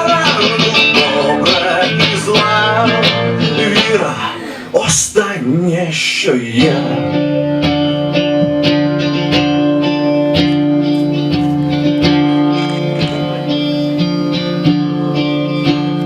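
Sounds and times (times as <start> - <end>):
rock band playing: 0.0 - 5.6, 6.6 - 16.0.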